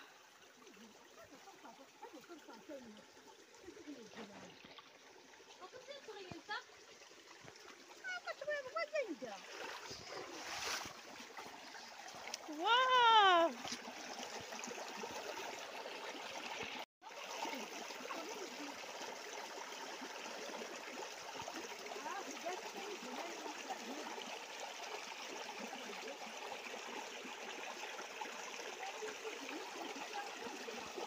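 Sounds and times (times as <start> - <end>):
stream running over rocks: 0.0 - 31.0.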